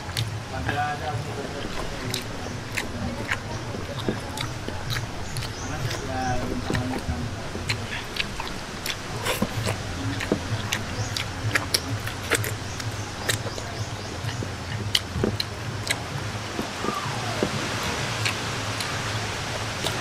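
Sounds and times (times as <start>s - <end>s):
fingers working rice on plate: 0.0s - 20.0s
wet chewing and lip-smacking: 0.0s - 20.0s.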